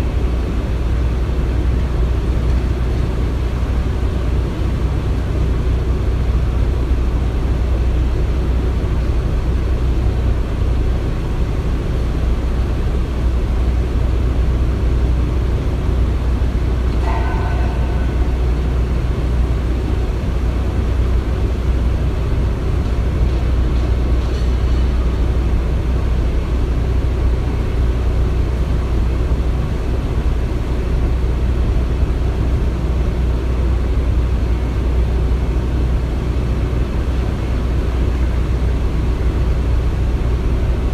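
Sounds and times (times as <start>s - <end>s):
heavy machinery rumble: 0.0s - 40.9s.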